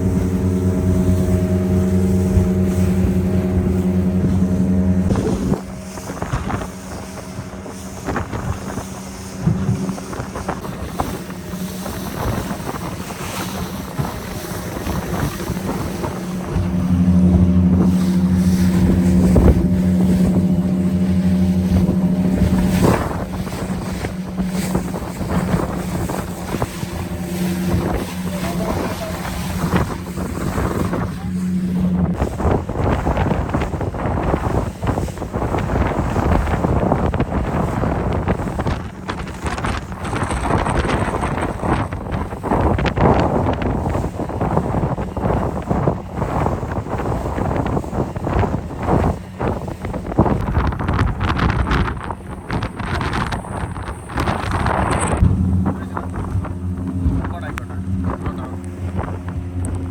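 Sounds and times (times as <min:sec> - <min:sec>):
hull knocking: 0:00.0 - 0:59.9
outboard motor running: 0:00.0 - 0:59.9
water splashing: 0:00.0 - 0:59.9
wind buffeting microphone: 0:00.0 - 0:59.9.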